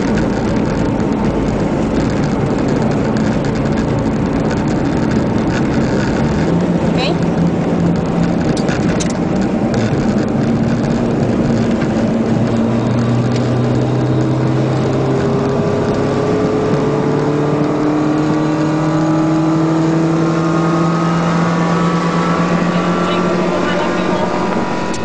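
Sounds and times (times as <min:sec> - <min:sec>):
race car engine accelerating: 0:00.0 - 0:25.0
road and wind noise: 0:00.0 - 0:25.0.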